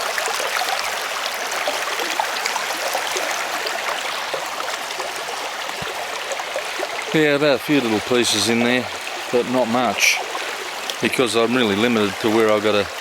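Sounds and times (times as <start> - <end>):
creek running fast: 0.0 - 13.0.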